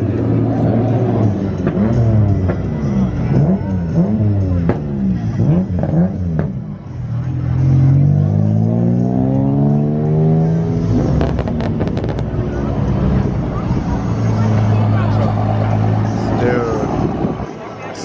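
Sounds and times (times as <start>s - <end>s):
car accelerating: 0.0s - 18.0s
drag racing engines revving: 0.0s - 18.0s.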